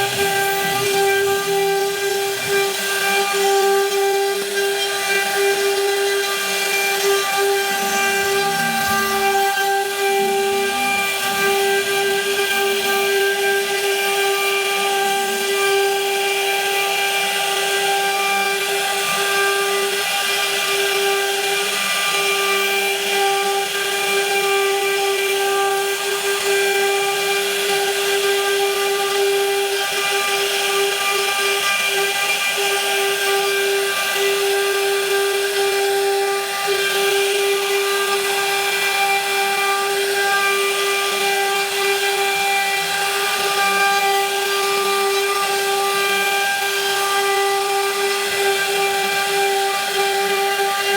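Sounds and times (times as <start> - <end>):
router spindle cutting wood: 0.0 - 50.9.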